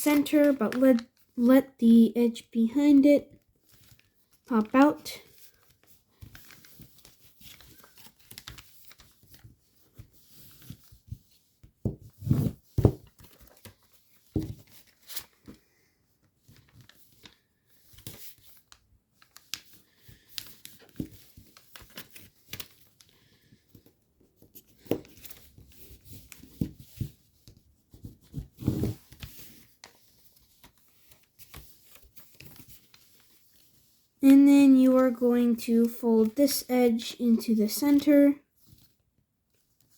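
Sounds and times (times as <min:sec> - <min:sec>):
paper rustling and crinkling: 0:03.4 - 0:34.1, 0:37.4 - 0:39.9.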